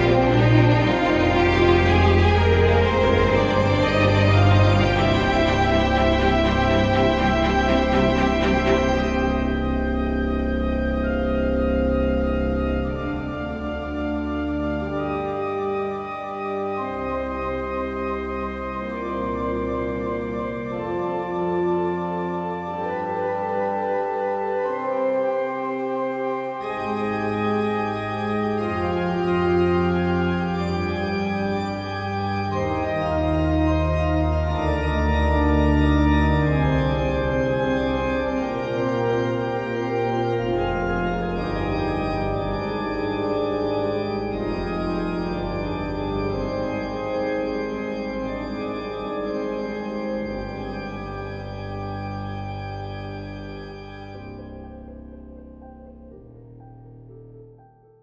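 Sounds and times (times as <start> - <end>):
low bass line: 0.0 - 15.4, 26.7 - 58.0
held keyboard chords: 0.0 - 58.0.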